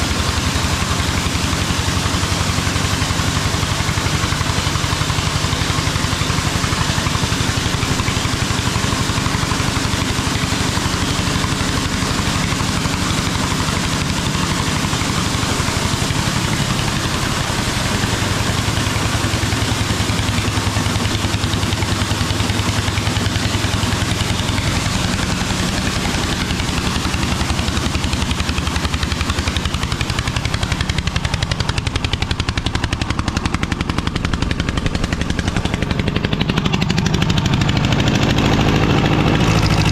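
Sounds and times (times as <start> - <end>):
small stationary engine running: 0.0 - 39.9.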